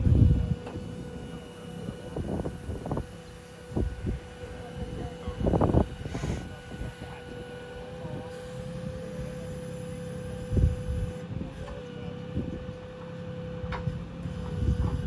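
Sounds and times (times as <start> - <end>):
crane mechanical tone: 0.0 - 15.0
low engine rumble: 0.0 - 15.0.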